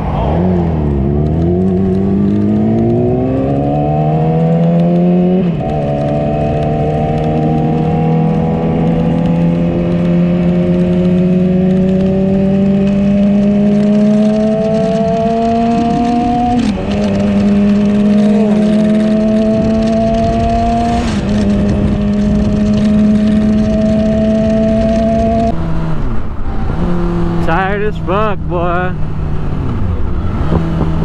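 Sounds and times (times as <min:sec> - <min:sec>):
gear change pitch drop: 0:00.0 - 0:31.0
motorcycle engine revving: 0:00.0 - 0:31.0.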